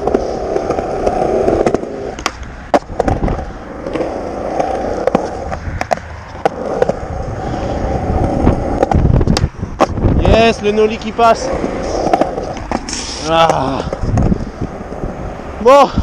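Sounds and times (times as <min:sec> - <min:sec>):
skateboard clacks: 0:00.0 - 0:15.0
skateboard wheels rumbling: 0:00.0 - 0:16.0.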